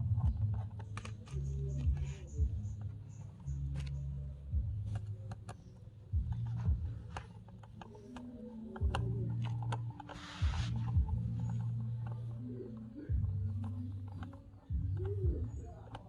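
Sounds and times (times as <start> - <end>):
low hum: 0.0 - 16.0
small parts clicking and tapping: 0.0 - 16.0.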